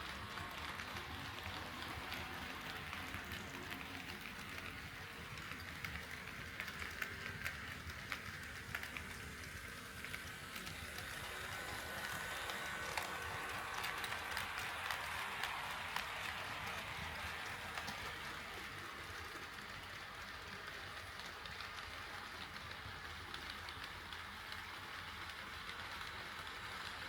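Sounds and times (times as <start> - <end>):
faint motor whine: 0.0 - 27.0
model train rolling rumble: 0.0 - 27.0.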